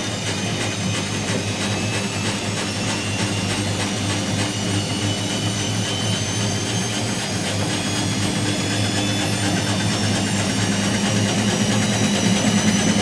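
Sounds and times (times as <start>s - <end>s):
washing machine running: 0.0s - 13.0s.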